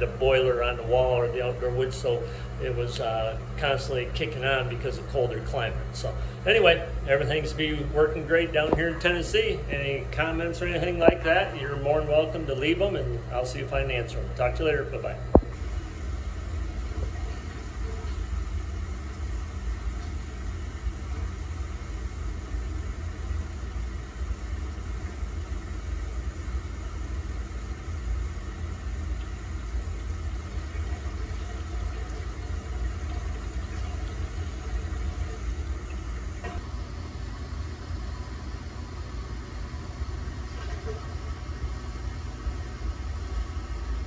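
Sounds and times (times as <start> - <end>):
heating pipes rumble and hum: 0.0 - 44.0.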